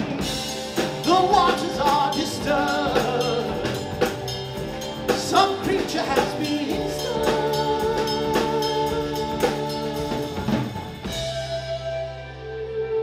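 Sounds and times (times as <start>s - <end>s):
drum kit and cymbals: 0.0s - 12.4s
bass guitar: 0.0s - 13.0s
keyboard chords: 0.0s - 13.0s.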